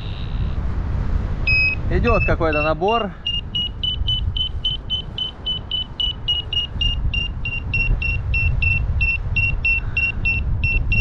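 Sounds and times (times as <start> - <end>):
variometer short high beeps: 0.0 - 0.6, 1.4 - 11.0
wind rumble on microphone: 0.0 - 11.0.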